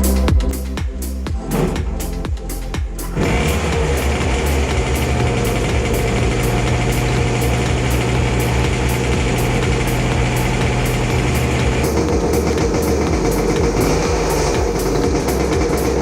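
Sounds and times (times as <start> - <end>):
go-kart engine idling: 3.2 - 16.0.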